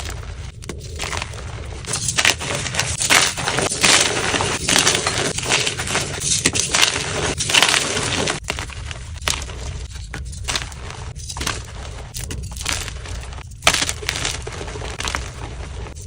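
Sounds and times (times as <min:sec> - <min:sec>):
chalk crunching by hand: 0:00.9 - 0:16.0.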